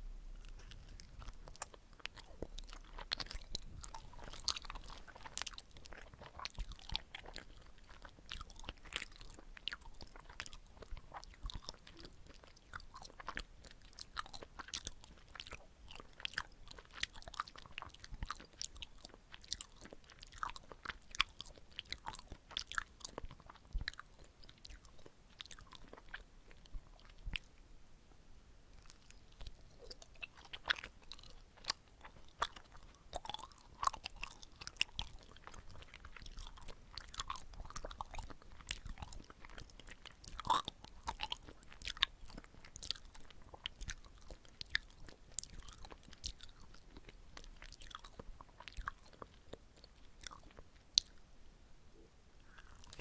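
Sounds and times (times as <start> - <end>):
chewing with wet mouth sounds: 0.4 - 27.6, 28.7 - 51.3, 52.4 - 53.0.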